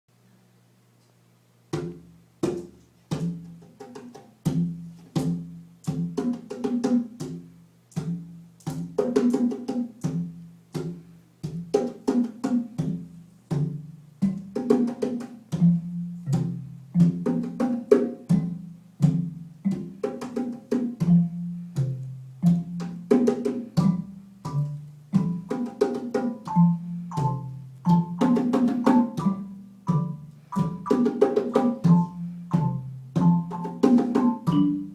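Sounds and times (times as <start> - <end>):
drums struck rhythmically: 1.7 - 34.9.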